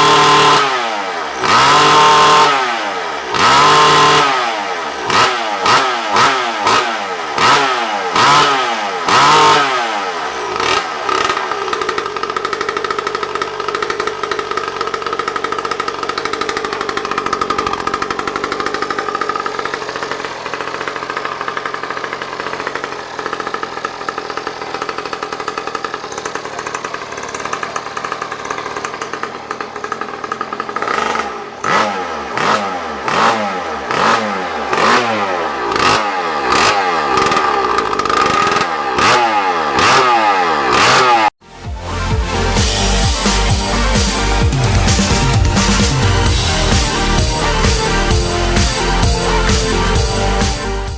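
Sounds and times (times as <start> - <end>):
mini motorbike engine revving: 0.0 - 41.6, 42.3 - 50.9.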